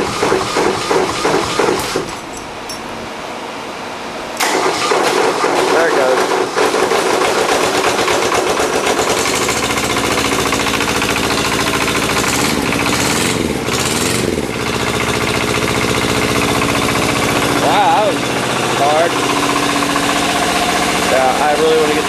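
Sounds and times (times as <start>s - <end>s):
tractor diesel engine running: 0.0s - 5.6s, 6.9s - 22.0s.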